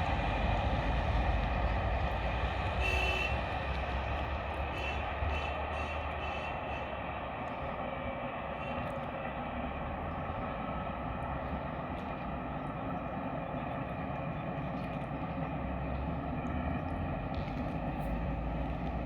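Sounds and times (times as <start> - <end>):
train rumbling with whine: 0.0 - 19.0.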